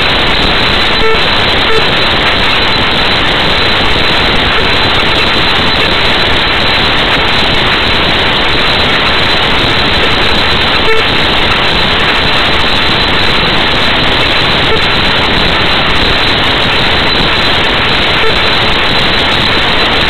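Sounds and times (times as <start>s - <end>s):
loud static hiss: 0.0s - 20.0s.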